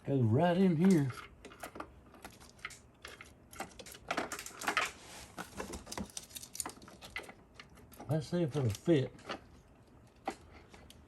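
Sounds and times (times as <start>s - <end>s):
clicks and rattles of handled part: 0.8s - 11.0s.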